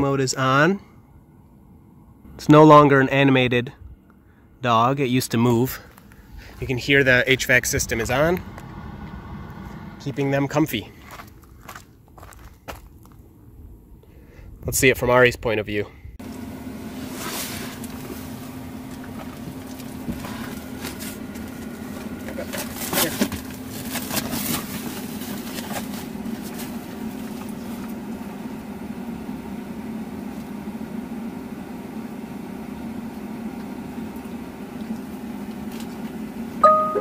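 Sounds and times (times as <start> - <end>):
car climate fan humming: 0.0 - 37.0.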